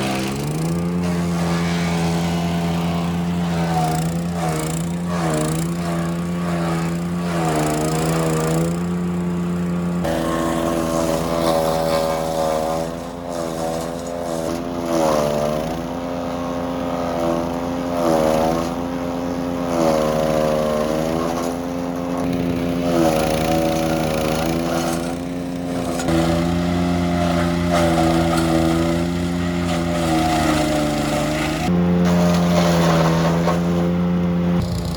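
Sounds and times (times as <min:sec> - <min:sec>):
wood chipper engine running: 0:00.0 - 0:34.9.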